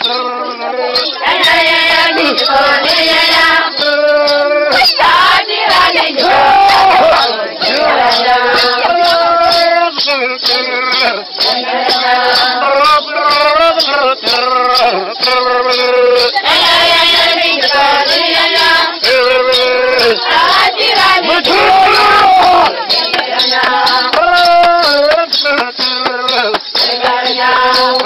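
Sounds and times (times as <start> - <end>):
women singing together: 0.0 - 28.0.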